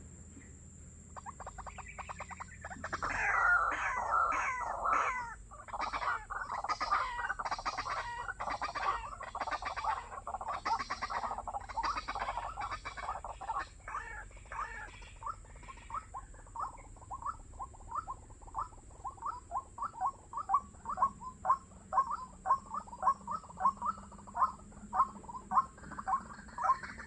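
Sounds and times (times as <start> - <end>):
waterhen harsh croaking calls: 1.2 - 27.0.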